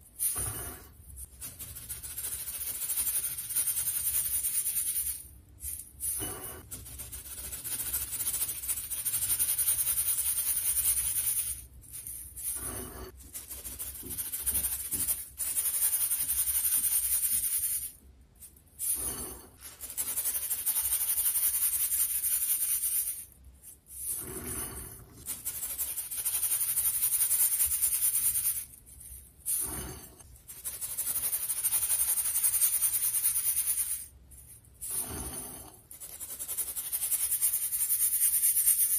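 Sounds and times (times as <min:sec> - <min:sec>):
powder rubbed through wire sieve: 0:00.0 - 0:38.9.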